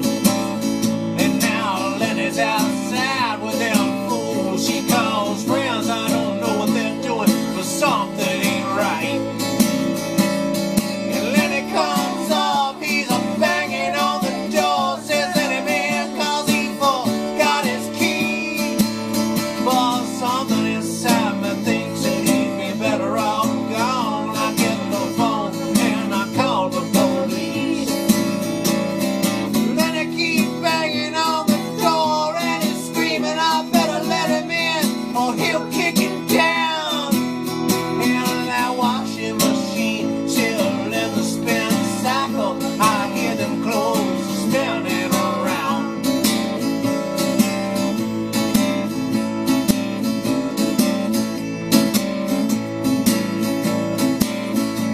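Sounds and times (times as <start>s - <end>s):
strummed acoustic guitar: 0.0s - 54.9s.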